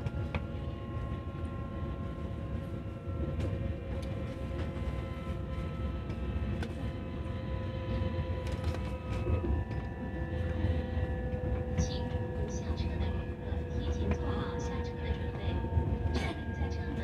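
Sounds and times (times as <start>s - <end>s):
electric train motor whine: 0.0s - 17.0s
wheels rumbling on track: 0.0s - 17.0s.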